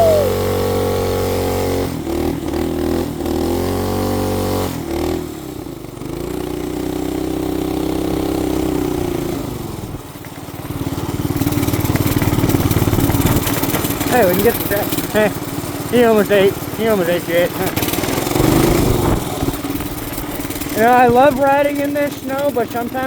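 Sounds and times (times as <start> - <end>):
small motorbike engine revving: 0.0 - 23.0.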